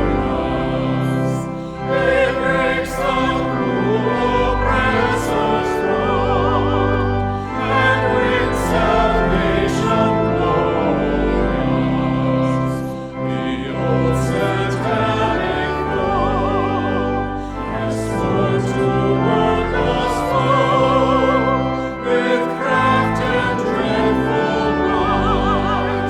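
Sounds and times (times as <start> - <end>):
sustained instrumental accompaniment: 0.0 - 26.0
voices singing with vibrato: 0.0 - 26.0.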